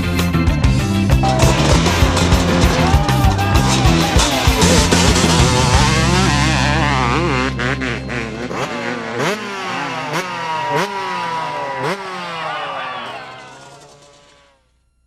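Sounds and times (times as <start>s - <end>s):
motorcycle engine revving: 1.2s - 14.6s.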